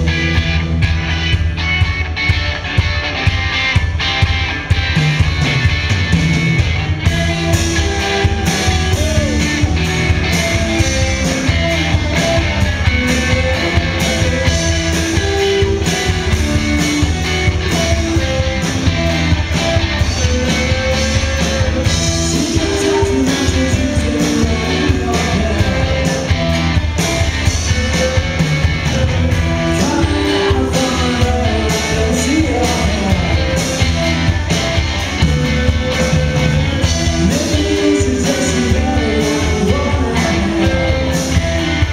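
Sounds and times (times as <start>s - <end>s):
bass guitar: 0.0s - 41.9s
drum kit steady beat: 0.0s - 41.9s
electric guitars: 0.0s - 41.9s.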